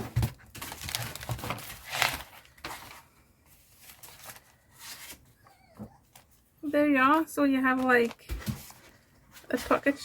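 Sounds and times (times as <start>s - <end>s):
paper and packaging rustling: 0.0s - 10.0s.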